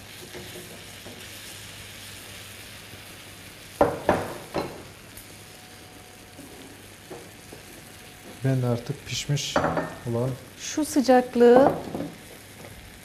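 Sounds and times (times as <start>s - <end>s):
syrup sizzling on hot crust: 0.0s - 13.0s.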